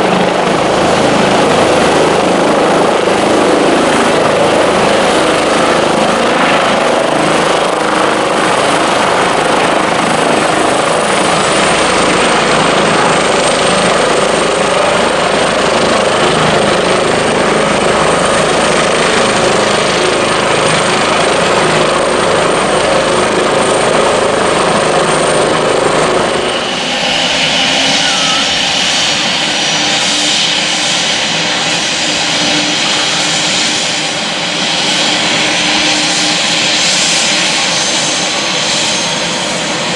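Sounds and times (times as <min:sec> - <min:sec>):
helicopter rotor noise: 0:00.0 - 0:39.9
turbine whine: 0:00.0 - 0:39.9.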